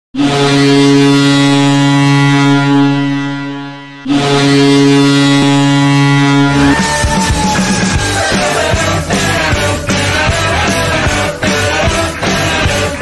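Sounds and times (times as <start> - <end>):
low goal horn blasts: 0.2 - 11.2.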